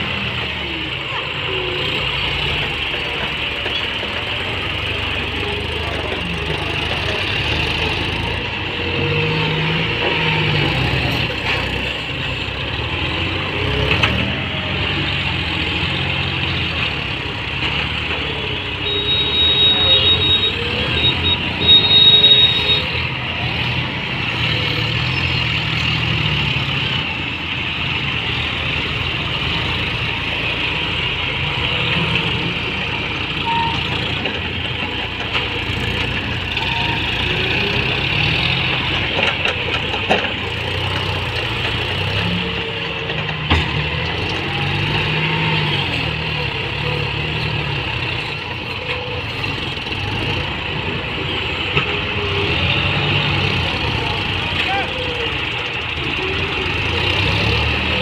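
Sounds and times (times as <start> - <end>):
diesel tractor engines under load: 0.0 - 58.0.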